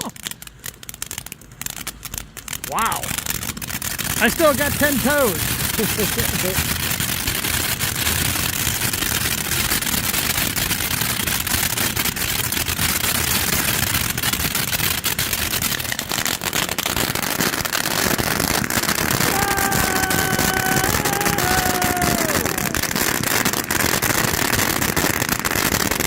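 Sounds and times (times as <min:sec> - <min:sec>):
firework fountain hissing and crackling: 0:00.0 - 0:26.0.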